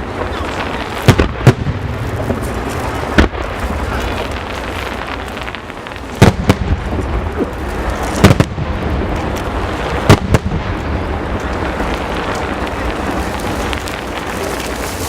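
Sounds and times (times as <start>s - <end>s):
background rumble and hiss: 0.0s - 15.0s
fireworks banging: 0.0s - 15.0s.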